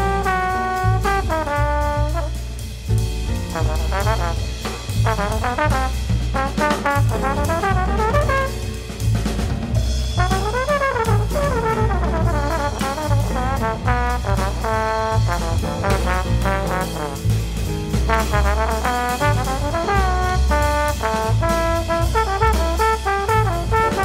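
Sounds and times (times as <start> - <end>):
heavy bass and drum beat: 0.0 - 24.0
jazz horn tune: 0.0 - 24.0.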